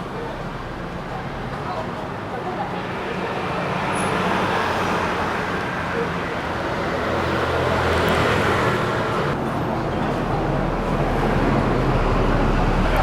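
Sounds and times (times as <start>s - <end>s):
roadside traffic noise: 0.0s - 13.0s.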